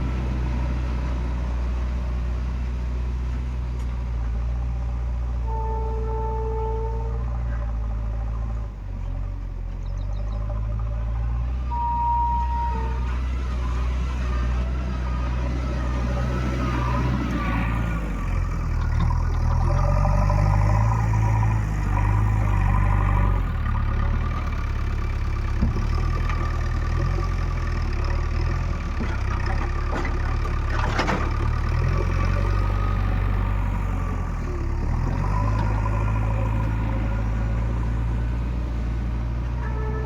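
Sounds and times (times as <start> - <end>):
diesel engine working hard: 0.0 - 40.0.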